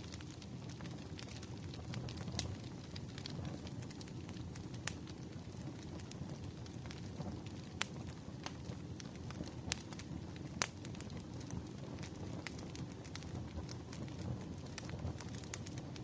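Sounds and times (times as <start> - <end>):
fire rumbling: 0.0 - 16.0
firewood crackles and pops: 0.0 - 16.0.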